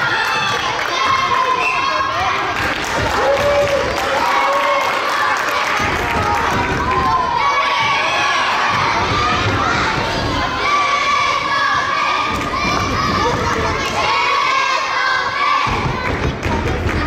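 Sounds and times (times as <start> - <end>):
children shouting and cheering: 0.0 - 17.0.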